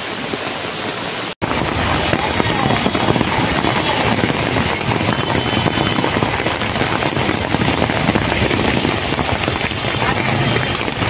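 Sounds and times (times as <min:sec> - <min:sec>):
heavy rain hissing: 0:00.0 - 0:11.0
vehicle engines: 0:01.4 - 0:11.0
vehicles driving through water: 0:01.4 - 0:11.0.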